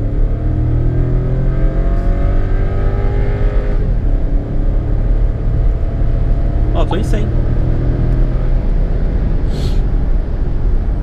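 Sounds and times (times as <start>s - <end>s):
turbo engine under full throttle: 0.0s - 11.0s.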